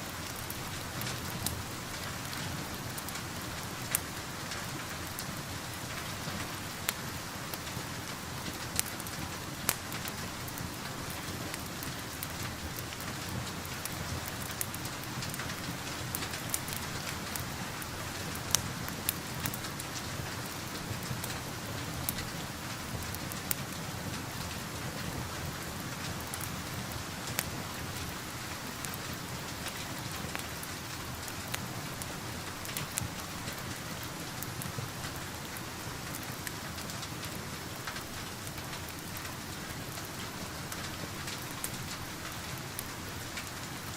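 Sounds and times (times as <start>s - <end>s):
fireplace crackling and popping: 0.0s - 43.9s
rain falling: 0.0s - 43.9s.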